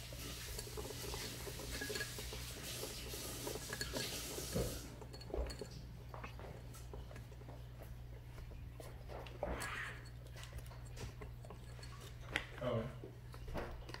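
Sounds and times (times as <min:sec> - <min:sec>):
kittens clinking plastic cups: 0:00.0 - 0:14.0.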